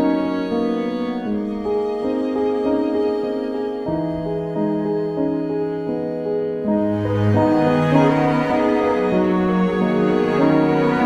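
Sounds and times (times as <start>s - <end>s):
soft slow piano music: 0.0s - 11.0s.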